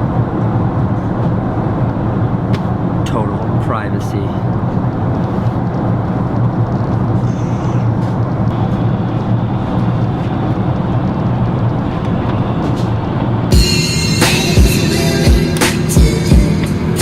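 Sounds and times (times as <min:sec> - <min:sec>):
airliner cabin engine drone: 0:00.0 - 0:17.0
low hum: 0:00.0 - 0:17.0.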